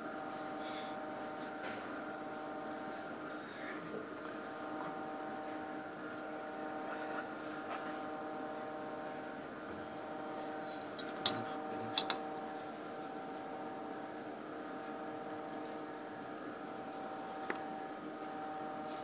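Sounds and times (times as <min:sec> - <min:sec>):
electrical hum of lab equipment: 0:00.0 - 0:19.0.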